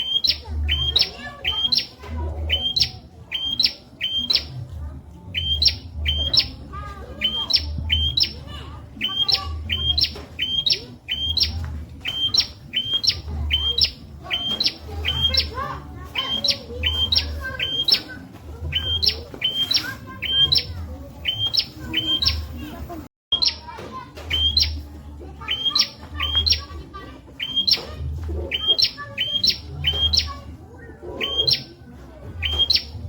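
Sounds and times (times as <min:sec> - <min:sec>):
bird singing sharp chirps: 0:00.0 - 0:04.6, 0:05.3 - 0:22.6, 0:24.3 - 0:24.9, 0:25.5 - 0:26.7, 0:27.4 - 0:27.9, 0:28.5 - 0:30.5, 0:31.2 - 0:31.8, 0:32.4 - 0:33.0.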